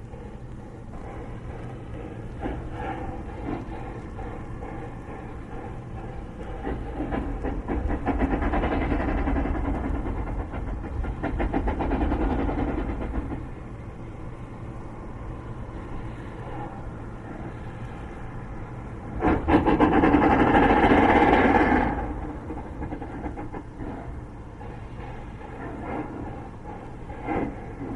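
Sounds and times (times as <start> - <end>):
steam hiss: 0.0 - 27.9
steam locomotive chuffing: 0.0 - 27.9.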